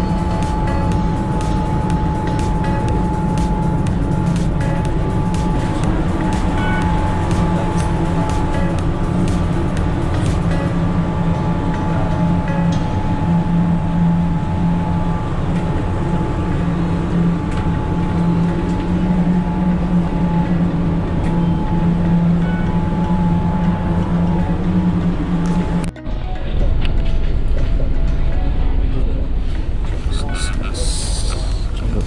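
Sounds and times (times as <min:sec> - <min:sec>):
ferry engines droning: 0:00.0 - 0:32.0.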